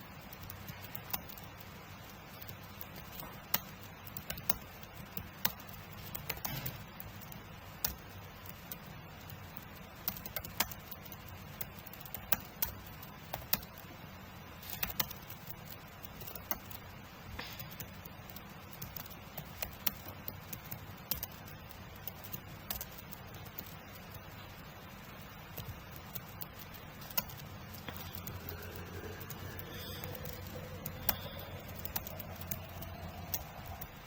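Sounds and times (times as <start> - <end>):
typing on computer keyboard: 0.0 - 13.9, 14.6 - 16.9, 17.7 - 34.0
steady low hum: 0.0 - 34.0.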